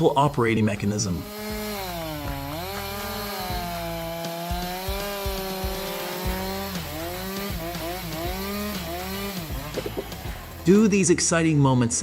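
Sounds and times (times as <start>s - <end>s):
chainsaw cutting wood: 0.9s - 10.9s.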